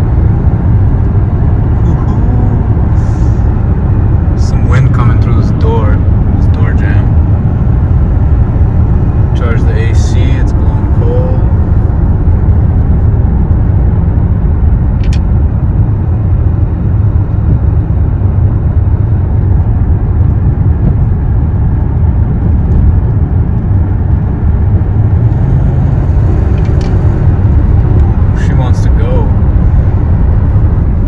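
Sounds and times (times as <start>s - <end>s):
car engine low rumble: 0.0s - 31.0s
road noise: 0.0s - 31.0s.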